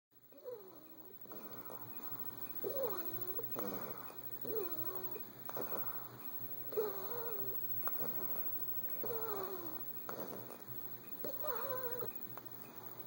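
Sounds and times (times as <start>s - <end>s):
noisy breaths: 0.2s - 13.0s
pet snoring: 0.3s - 13.0s.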